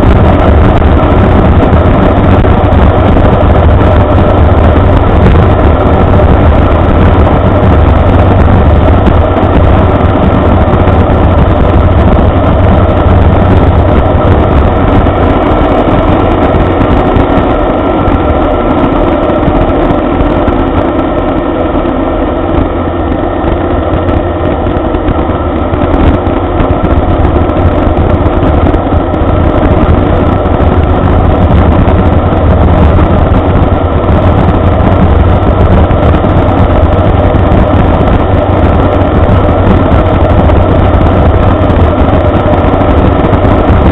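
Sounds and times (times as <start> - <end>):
aircraft engine drone: 0.0 - 43.9.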